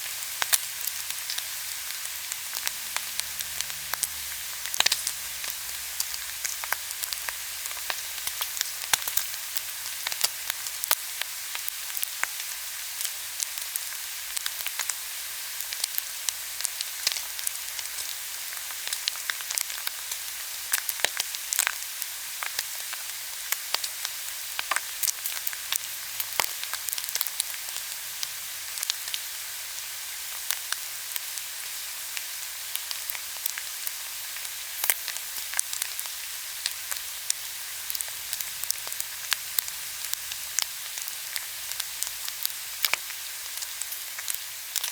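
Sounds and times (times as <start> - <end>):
meat sizzling: 0.0 - 44.9.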